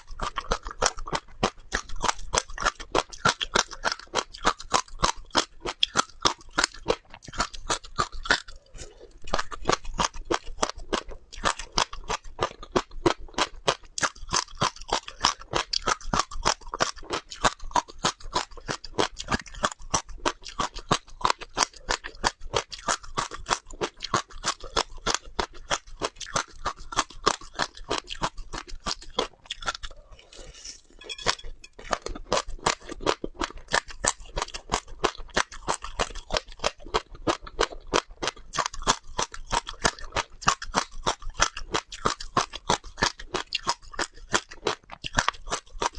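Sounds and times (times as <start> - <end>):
chewing crunchy seeds: 0.0 - 45.9.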